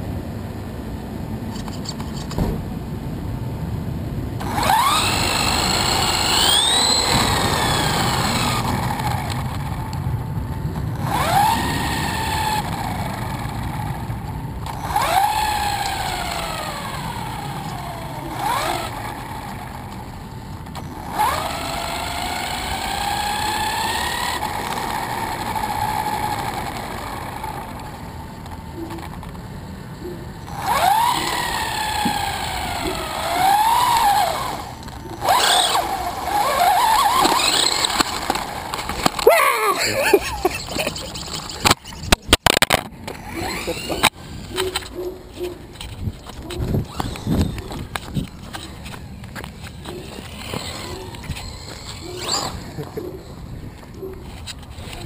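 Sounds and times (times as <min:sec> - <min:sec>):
high-pitched electric motor whine: 0:04.4 - 0:55.0
tyres rumbling on concrete: 0:04.4 - 0:55.0.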